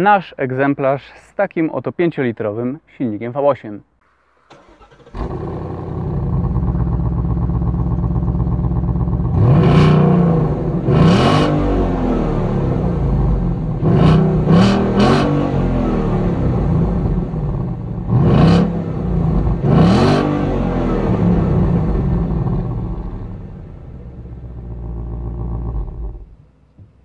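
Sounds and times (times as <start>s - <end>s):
car engine idling and revving: 4.5s - 27.0s.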